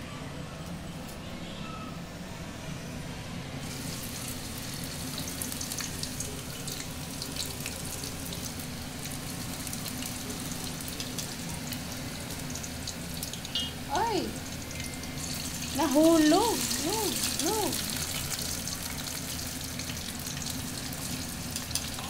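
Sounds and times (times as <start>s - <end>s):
oil sizzling and crackling: 3.6s - 22.0s.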